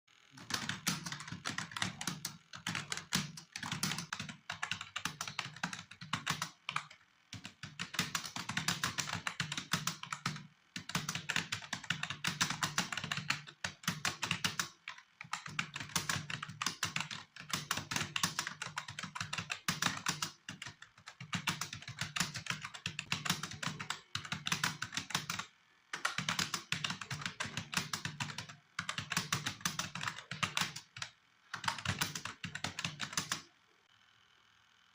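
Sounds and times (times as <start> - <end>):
fast typing on a keyboard: 0.4 - 33.5.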